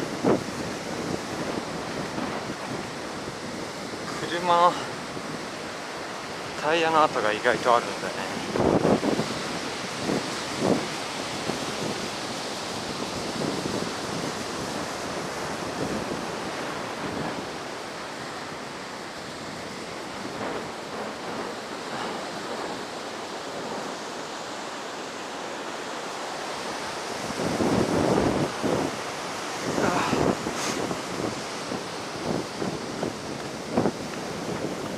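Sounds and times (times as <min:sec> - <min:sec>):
ocean surf: 0:00.0 - 0:34.9
wind buffeting microphone: 0:00.0 - 0:34.9.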